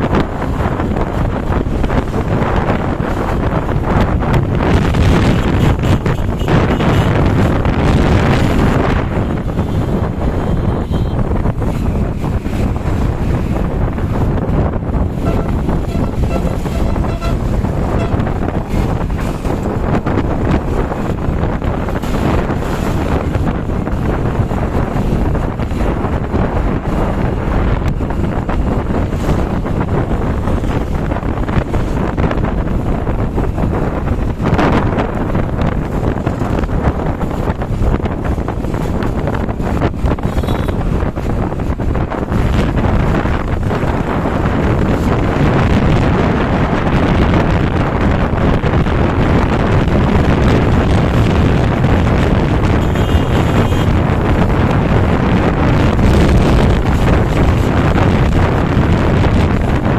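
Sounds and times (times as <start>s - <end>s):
traffic noise: 0.0s - 59.9s
wind buffeting microphone: 0.0s - 59.9s.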